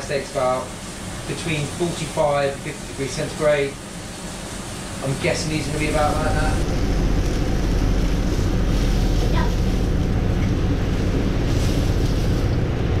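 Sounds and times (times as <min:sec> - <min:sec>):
low hum: 0:00.6 - 0:13.0.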